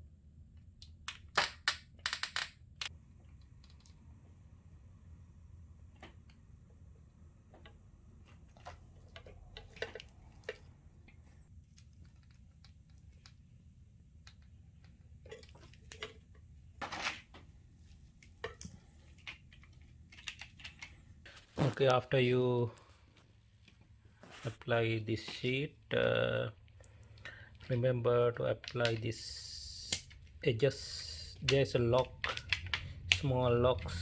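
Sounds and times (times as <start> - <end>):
faint low hum: 3.0 - 34.0.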